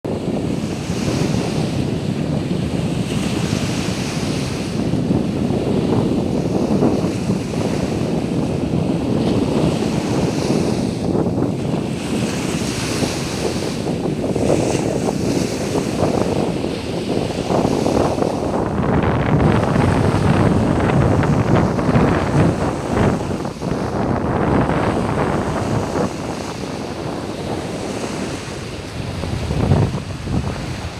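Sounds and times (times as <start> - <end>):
sea waves washing onto beach: 0.1 - 30.9
wind buffeting microphone: 0.1 - 30.9.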